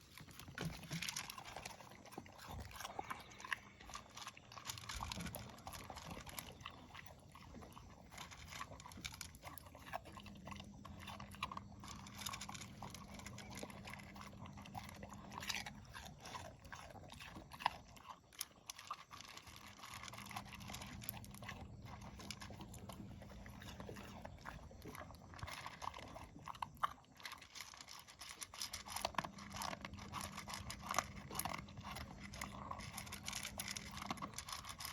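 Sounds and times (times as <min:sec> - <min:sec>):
pet crunching food: 0:00.0 - 0:34.9.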